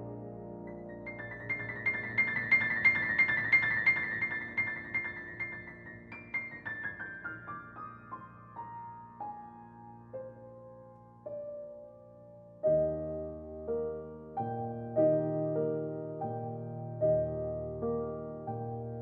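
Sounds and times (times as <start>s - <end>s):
piano playing christmas music: 0.0s - 19.0s.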